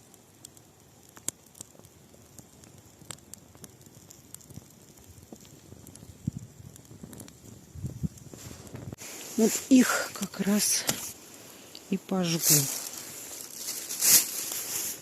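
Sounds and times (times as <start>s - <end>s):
campfire crackling and popping: 0.0s - 15.0s
faint hiss: 0.0s - 15.0s.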